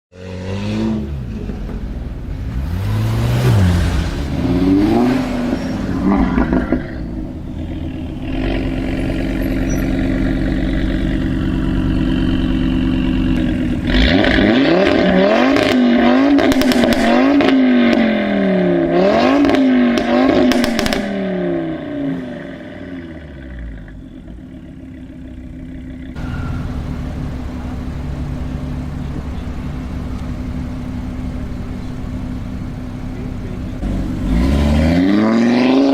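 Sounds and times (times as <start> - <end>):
car engine revving: 0.1 - 35.9
exhaust popping and crackling: 0.6 - 35.9.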